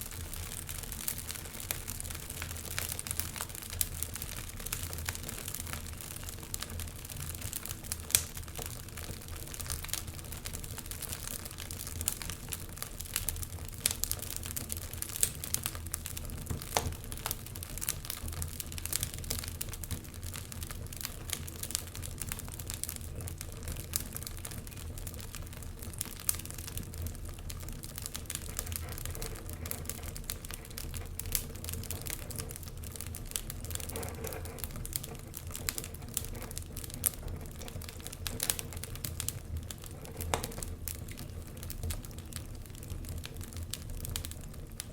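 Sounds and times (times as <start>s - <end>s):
logs crackling in fireplace: 0.0s - 44.9s.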